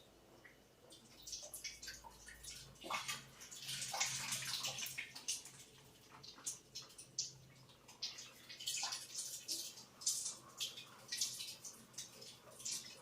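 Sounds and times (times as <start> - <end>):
water splashing into a container: 1.2 - 13.0.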